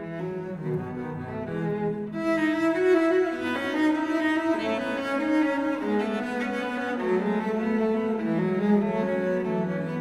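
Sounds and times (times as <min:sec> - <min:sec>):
cello and double bass duet: 0:00.0 - 0:10.0.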